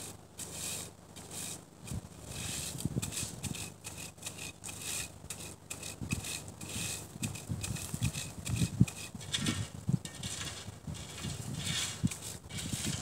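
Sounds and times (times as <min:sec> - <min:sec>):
dry grass rustling and scraping: 0:00.0 - 0:13.0.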